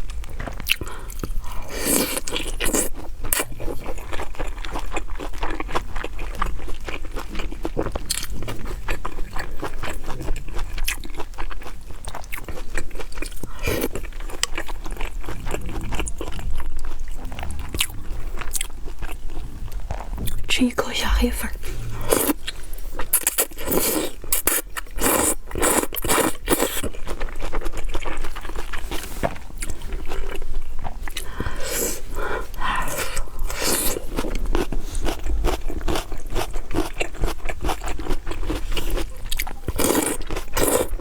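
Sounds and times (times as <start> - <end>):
crunchy bites and chewing: 0.1 - 20.5, 21.8 - 41.0.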